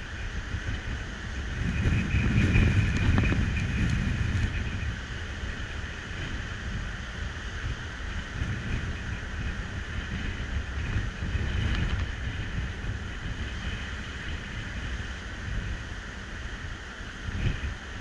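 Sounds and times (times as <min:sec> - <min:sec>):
waves breaking on sandy shore: 0:00.0 - 0:18.0
wind buffeting microphone: 0:00.0 - 0:18.0.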